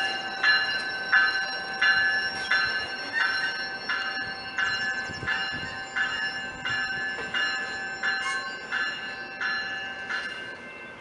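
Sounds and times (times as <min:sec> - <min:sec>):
warning bell ringing: 0:00.0 - 0:11.0.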